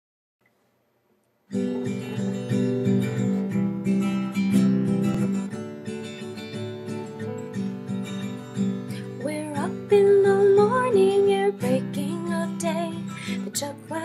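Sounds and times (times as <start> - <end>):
acoustic guitar strumming: 1.5 - 14.0.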